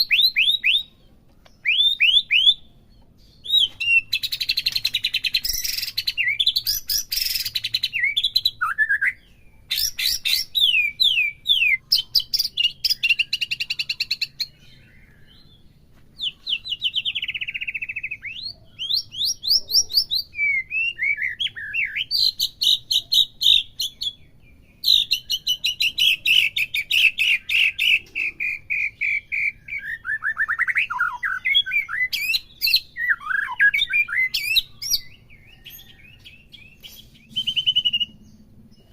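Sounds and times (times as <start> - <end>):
bird singing trills and whistles: 0.0 - 38.9.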